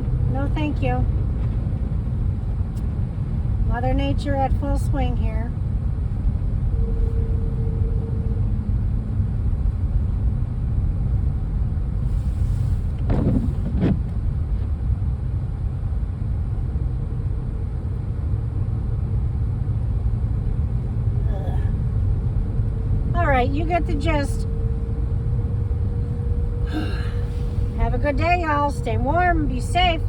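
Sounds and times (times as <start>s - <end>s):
car driving in snow: 0.0s - 30.0s.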